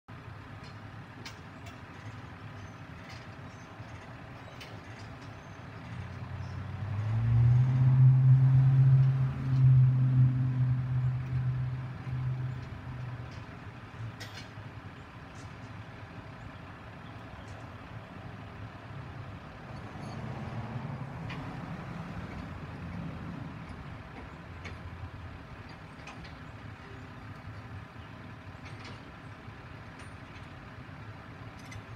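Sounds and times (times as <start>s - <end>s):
heavy truck engine drone: 0.1s - 31.9s.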